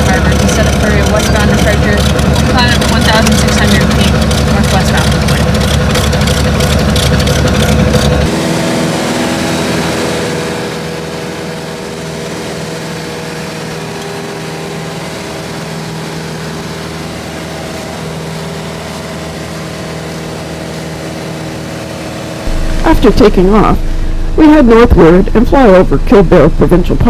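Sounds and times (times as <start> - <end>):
propeller engine at high power: 0.0 - 27.0.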